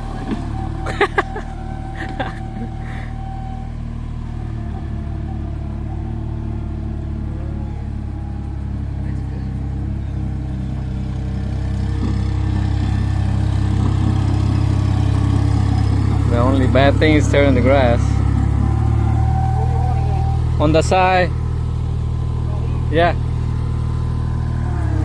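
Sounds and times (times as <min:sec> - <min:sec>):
loader engine running under load: 0:00.0 - 0:25.0.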